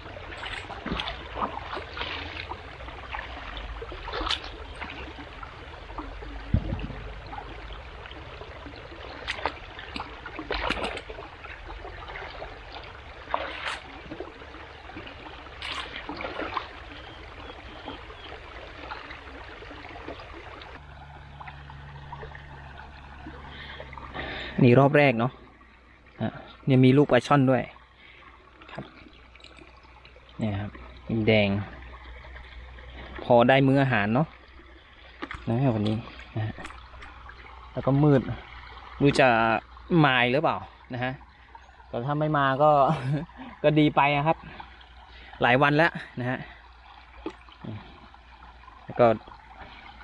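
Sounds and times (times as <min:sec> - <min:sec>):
floodwater running: 0:00.0 - 0:50.0
water splashing and sloshing: 0:00.0 - 0:50.0.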